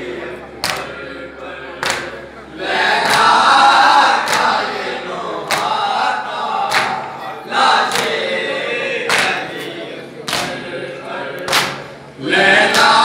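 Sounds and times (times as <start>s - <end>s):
men chanting in chorus: 0.0s - 13.0s.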